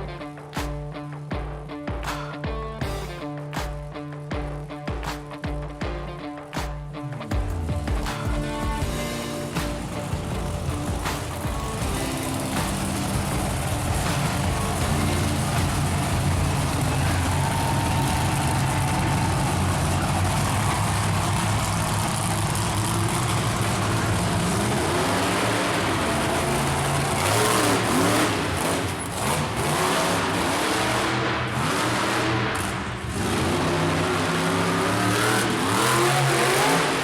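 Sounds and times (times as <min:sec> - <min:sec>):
large engine running and revving: 0:07.3 - 0:37.0.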